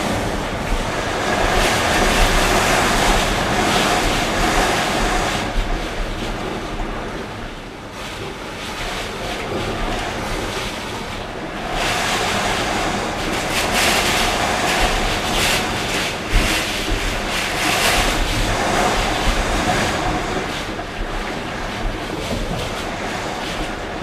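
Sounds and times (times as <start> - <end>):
strong wind gusts roaring: 0.0 - 24.0
wind buffeting microphone: 0.0 - 24.0.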